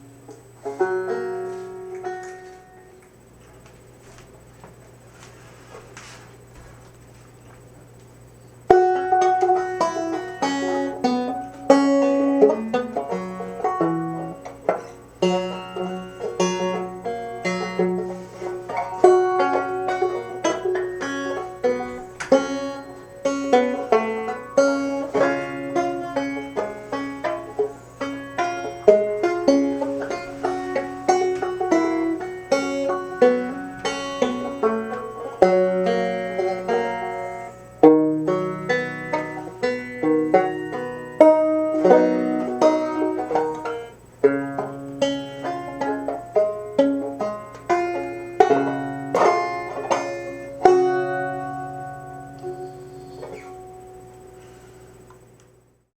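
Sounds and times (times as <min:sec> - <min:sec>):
banjo picking: 0:00.0 - 0:03.0, 0:08.7 - 0:54.4.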